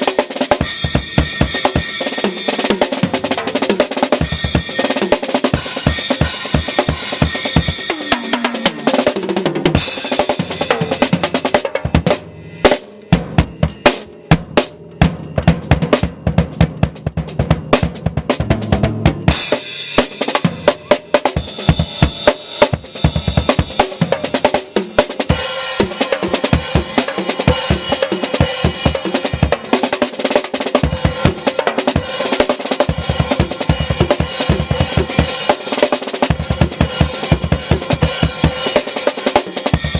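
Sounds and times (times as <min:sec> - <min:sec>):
ringing cymbals: 0:00.0 - 0:39.9.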